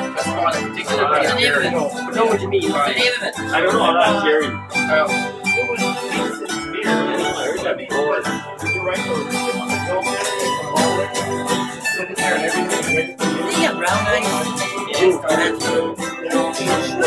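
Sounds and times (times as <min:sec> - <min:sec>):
acoustic guitars strumming: 0:00.0 - 0:17.0
mandolin picking waltz tune: 0:00.0 - 0:17.0.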